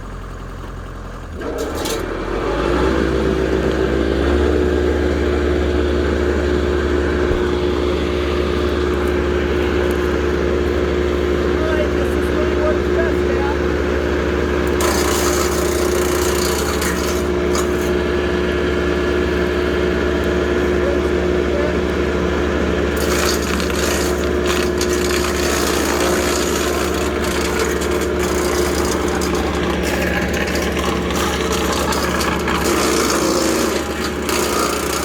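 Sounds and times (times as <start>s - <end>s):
tractor engine humming: 0.0s - 35.0s.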